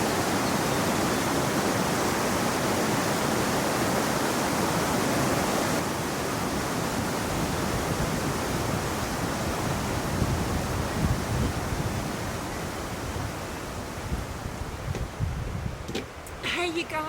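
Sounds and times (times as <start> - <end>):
river water rushing: 0.0 - 15.2.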